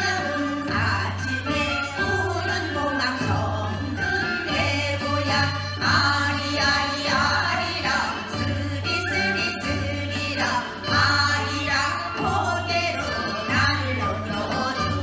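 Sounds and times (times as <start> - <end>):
group singing folk song: 0.0 - 15.0
music: 0.0 - 15.0.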